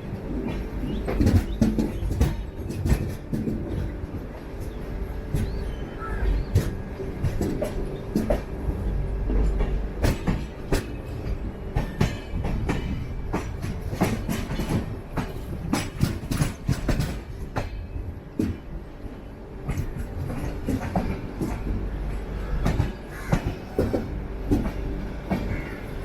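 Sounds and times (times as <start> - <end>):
low train rumble: 0.0 - 26.0
train wheels clattering on track: 0.0 - 26.0.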